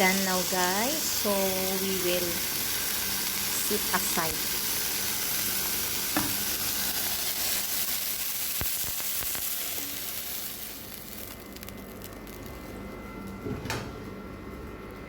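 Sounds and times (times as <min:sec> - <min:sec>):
chicken sizzling in frying pan: 0:00.0 - 0:12.8.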